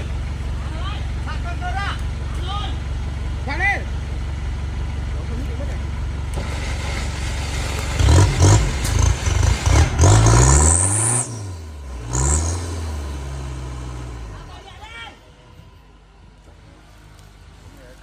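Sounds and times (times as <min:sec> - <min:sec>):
engine idling and revving: 0:00.0 - 0:18.0.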